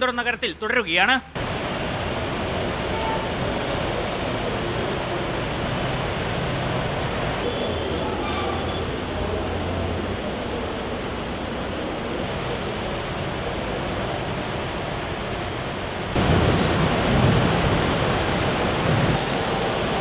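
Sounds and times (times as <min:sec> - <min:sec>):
heavy rain pouring: 0:01.4 - 0:20.0
water rushing over street: 0:01.4 - 0:20.0.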